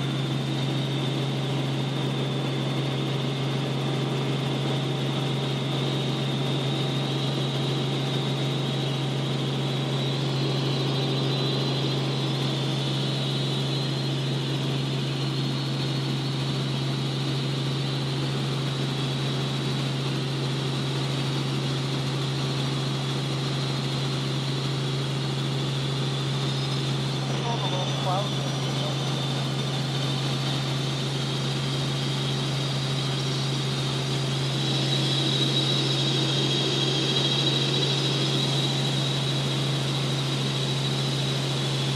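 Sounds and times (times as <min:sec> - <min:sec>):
helicopter drone from cabin: 0:00.0 - 0:41.9.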